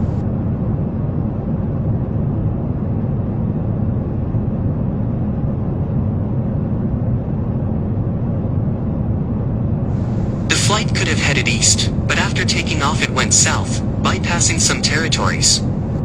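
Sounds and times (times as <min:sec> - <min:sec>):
jet airliner rumble in flight: 0:00.0 - 0:16.0.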